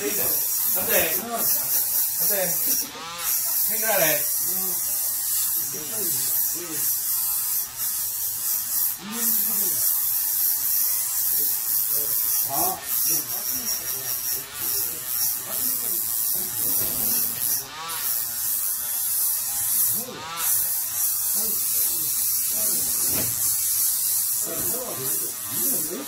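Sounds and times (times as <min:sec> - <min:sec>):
rotary grinder grinding steel blade: 0:00.0 - 0:26.0.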